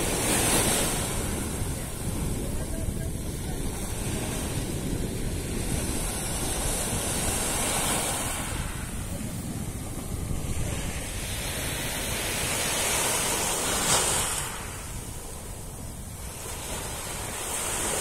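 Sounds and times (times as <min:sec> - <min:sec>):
waves breaking on beach: 0:00.0 - 0:18.0
wind rumble on microphone: 0:00.0 - 0:18.0.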